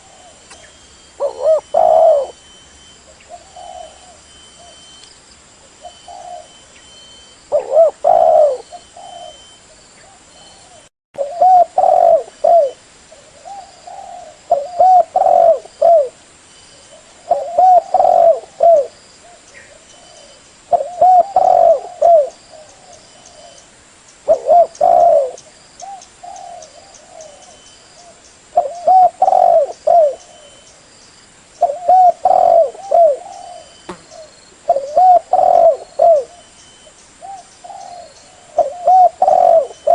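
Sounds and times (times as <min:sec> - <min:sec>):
dove cooing: 0:00.0 - 0:02.5, 0:03.1 - 0:05.0, 0:05.8 - 0:16.2, 0:16.9 - 0:23.6, 0:24.3 - 0:30.7, 0:31.6 - 0:36.5, 0:37.2 - 0:39.9.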